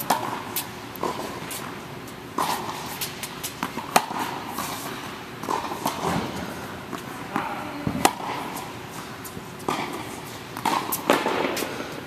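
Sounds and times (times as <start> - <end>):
tennis balls hit and bouncing: 0.0 - 12.0.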